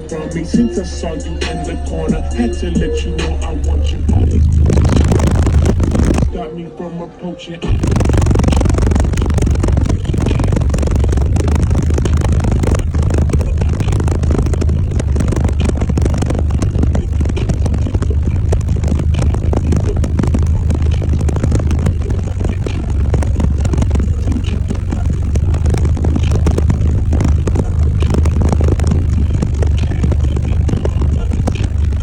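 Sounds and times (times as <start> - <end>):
subwoofers playing heavy bass: 0.0 - 32.0.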